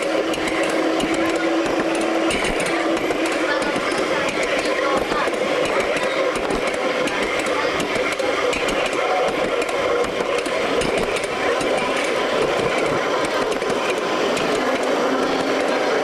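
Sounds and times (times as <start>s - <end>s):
miniature train running: 0.0s - 16.0s.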